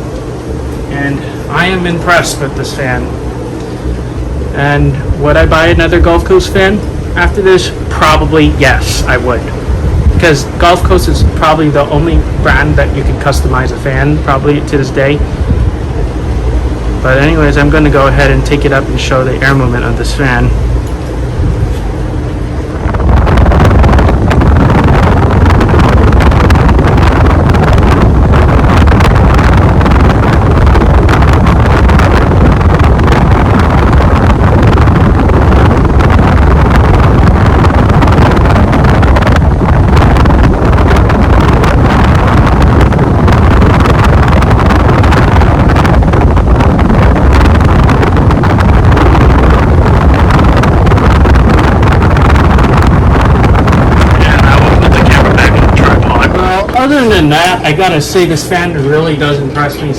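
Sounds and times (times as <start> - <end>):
fan wind buffeting microphone: 0.0 - 59.9.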